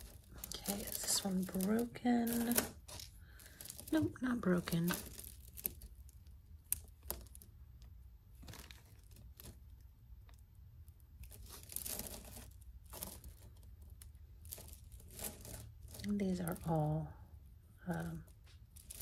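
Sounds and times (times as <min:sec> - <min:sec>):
soft rustling: 0:00.0 - 0:19.0.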